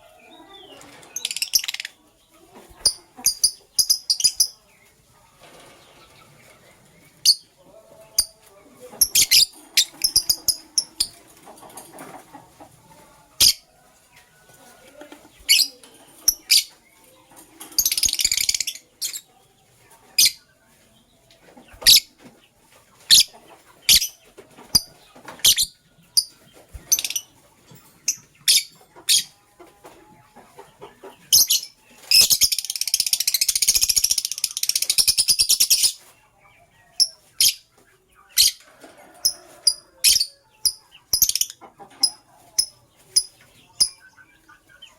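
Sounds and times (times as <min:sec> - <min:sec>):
lovebirds chirping: 0:00.0 - 0:29.4, 0:30.0 - 0:44.9
rapid bird chatter: 0:00.0 - 0:44.9.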